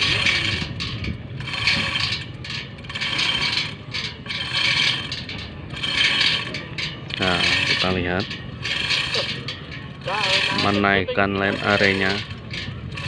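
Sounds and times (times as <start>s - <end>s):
hoist chain rattling and clicking: 0.0s - 13.0s.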